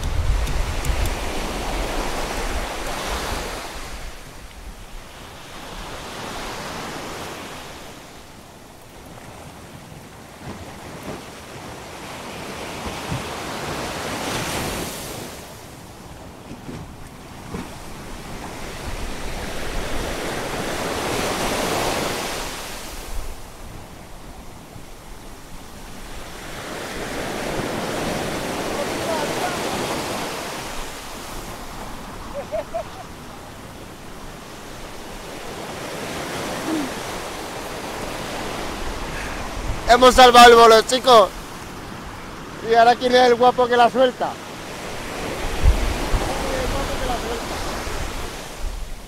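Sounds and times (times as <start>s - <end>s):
sea waves breaking on rocks: 0.0s - 49.0s.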